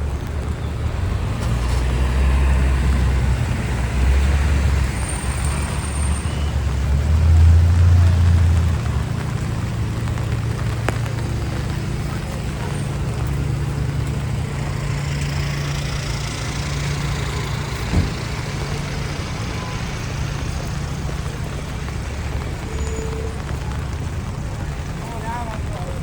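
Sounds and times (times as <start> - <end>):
low engine rumble: 0.0 - 26.0
vehicle passing on wet street: 0.0 - 26.0.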